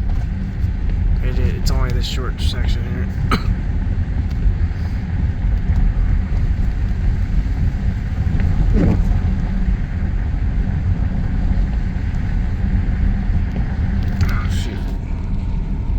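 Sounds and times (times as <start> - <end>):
car driving slowly from inside: 0.0 - 15.9.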